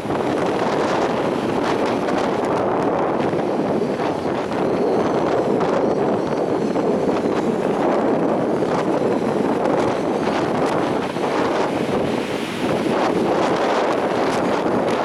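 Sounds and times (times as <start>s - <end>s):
stormy sea surf: 0.0s - 15.0s
wind buffeting microphone: 0.0s - 15.0s.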